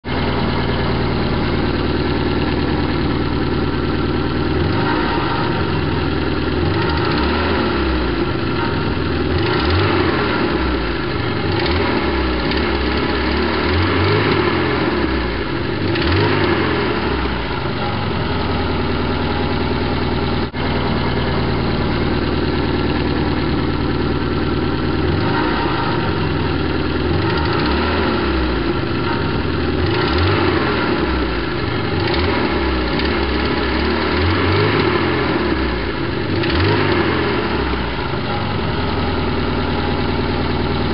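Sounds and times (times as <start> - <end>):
car engine running with misfire: 0.0 - 40.9.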